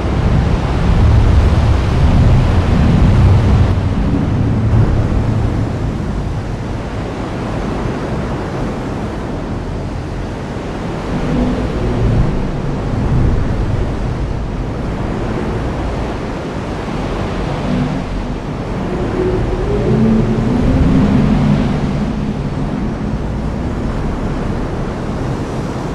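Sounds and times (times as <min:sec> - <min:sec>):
low rumbling: 0:00.0 - 0:25.9.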